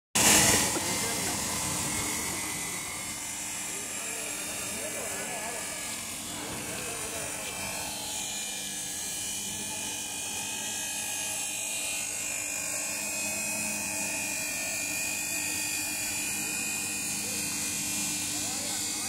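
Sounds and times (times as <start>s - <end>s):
motor humming with high whine: 0.2s - 19.0s.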